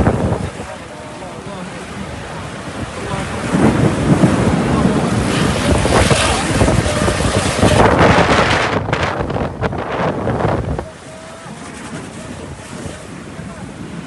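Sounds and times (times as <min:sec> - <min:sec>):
storm wind gusting over microphone: 0:00.0 - 0:14.0.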